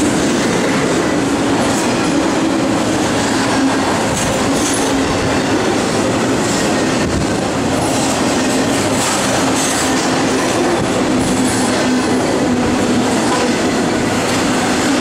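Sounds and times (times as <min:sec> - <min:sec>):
freight train wheels clattering: 0:00.0 - 0:15.0.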